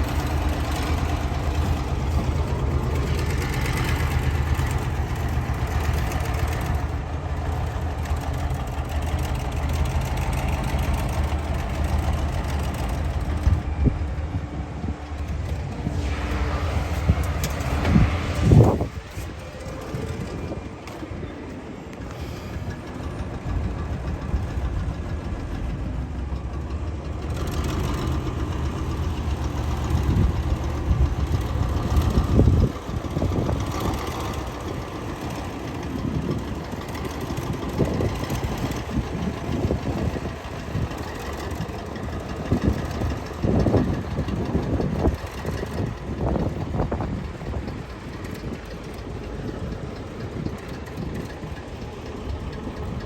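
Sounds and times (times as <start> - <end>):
heavy engine rumbling: 0.0 - 53.0.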